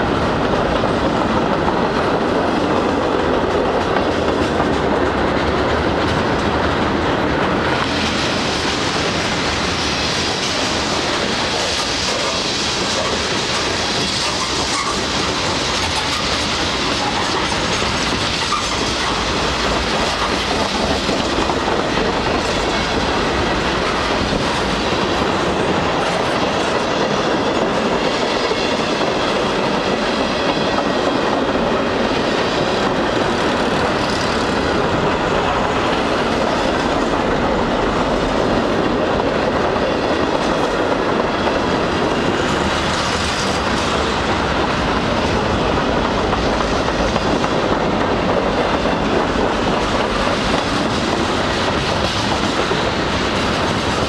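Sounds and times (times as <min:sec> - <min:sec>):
clickety-clack over rail joints: 0:00.0 - 0:54.0
train wheels rolling on rails: 0:00.0 - 0:54.0.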